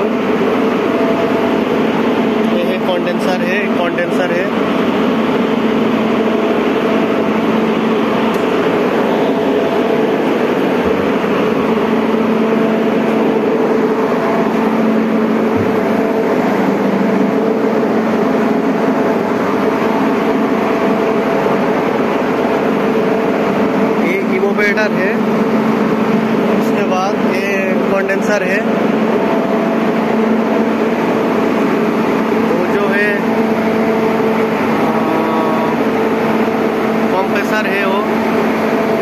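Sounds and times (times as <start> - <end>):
chiller machine hum: 0.0 - 39.0.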